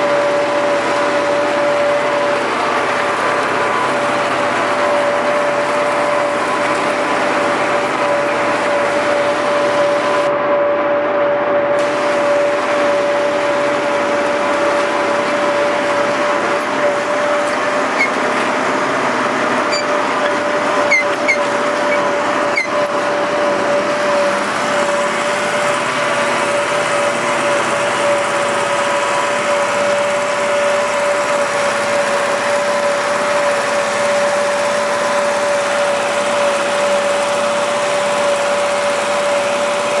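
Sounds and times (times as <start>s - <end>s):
constant whine: 0.0s - 40.0s
tractor diesel engine running: 0.0s - 40.0s.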